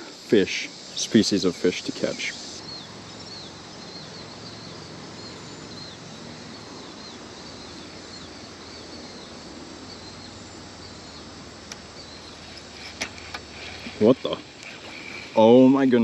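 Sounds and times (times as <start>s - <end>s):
high chirping insect or bird: 0.0s - 16.0s
steady background hiss: 0.0s - 16.0s.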